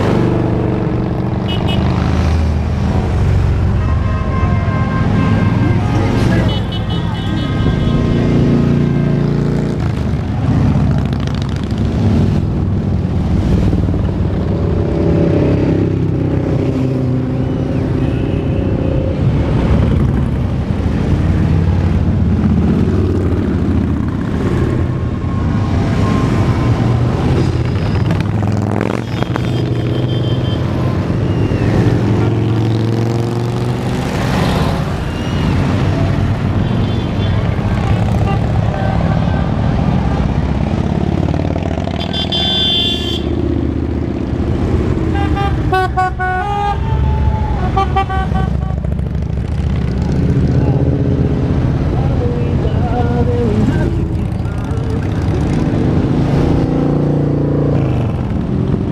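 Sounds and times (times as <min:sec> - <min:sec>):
motorcycles riding past: 0:05.2 - 0:45.2, 0:48.3 - 0:58.9.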